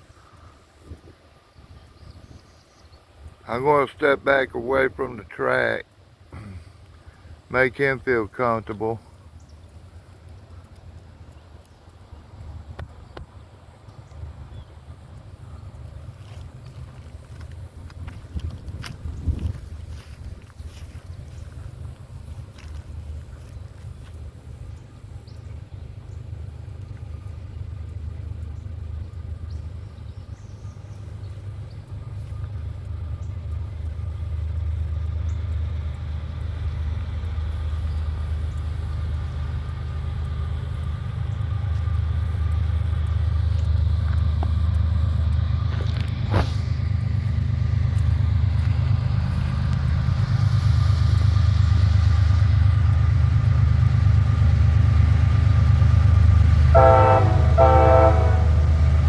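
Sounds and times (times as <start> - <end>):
locomotive engine rumble: 0.0 - 59.0.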